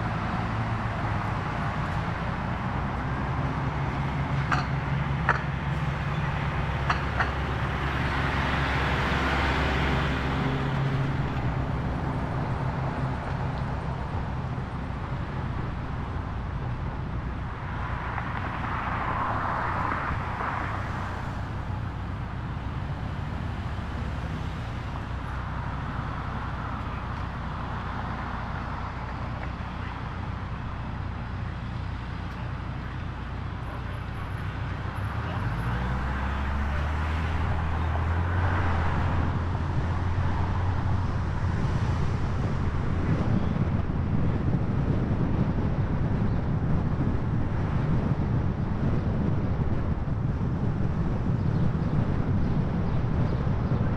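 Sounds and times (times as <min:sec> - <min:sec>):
engine rumble of traffic: 0:00.0 - 0:53.9
vehicles passing: 0:00.0 - 0:53.9.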